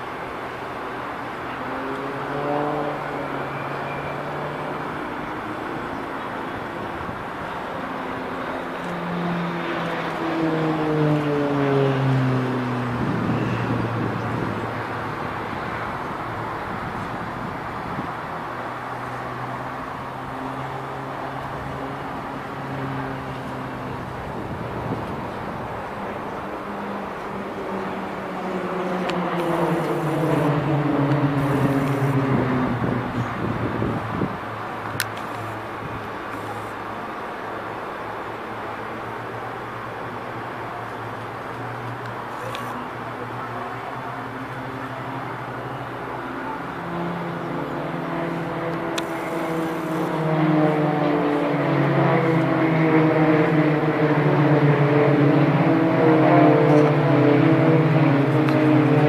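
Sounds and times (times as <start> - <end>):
propeller aircraft flying overhead: 0.0 - 59.0.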